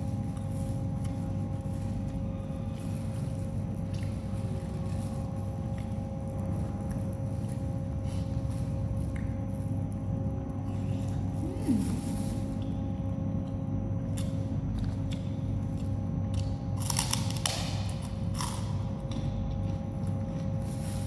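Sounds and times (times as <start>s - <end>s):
faint constant hum: 0.0s - 21.0s
low background rumble: 0.0s - 21.0s.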